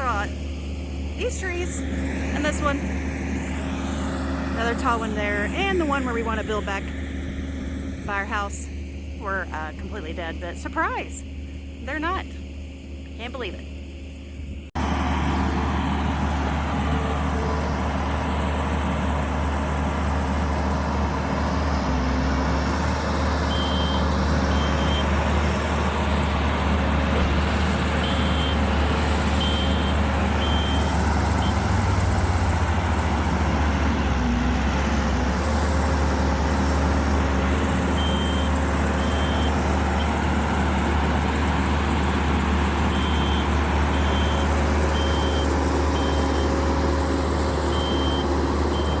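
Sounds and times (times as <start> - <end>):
reversing alarm beeping: 0.0 - 14.0, 15.2 - 34.4, 35.5 - 49.0
diesel engine under load: 0.0 - 49.0.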